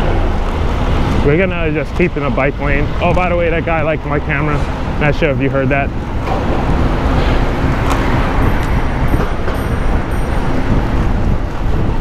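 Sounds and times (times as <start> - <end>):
road traffic noise: 0.0 - 12.0
wind rushing over microphone: 0.0 - 12.0.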